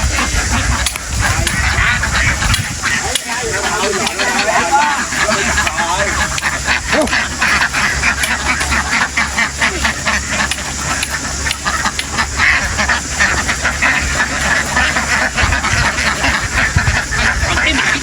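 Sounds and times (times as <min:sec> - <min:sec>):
ducks quacking: 0:00.0 - 0:18.0
steady low hum: 0:00.0 - 0:18.0.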